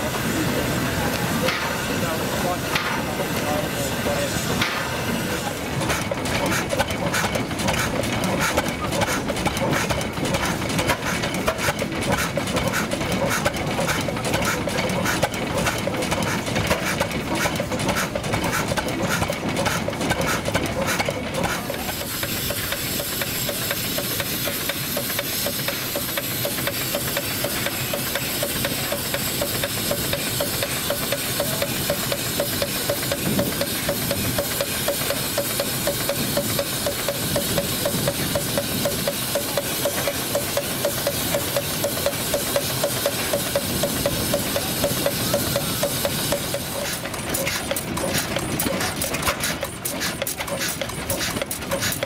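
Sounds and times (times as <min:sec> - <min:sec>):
old engine knocking: 0:05.6 - 0:52.0.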